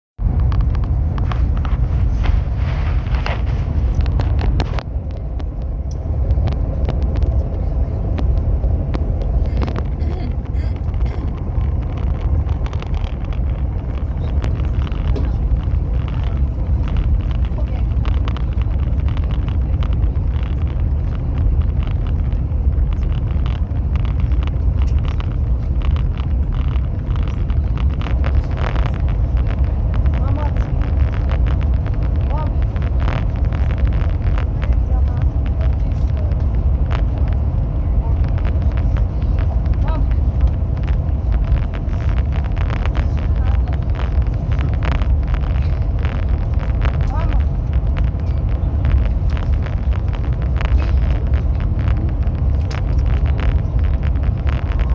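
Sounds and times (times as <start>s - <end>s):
train rumble inside carriage: 0.2s - 54.9s.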